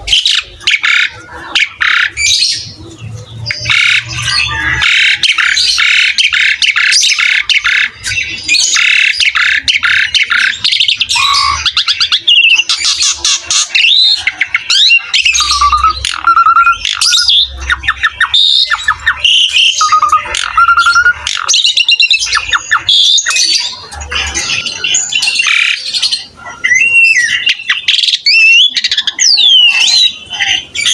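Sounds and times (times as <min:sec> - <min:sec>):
starling singing: 0:00.0 - 0:30.9.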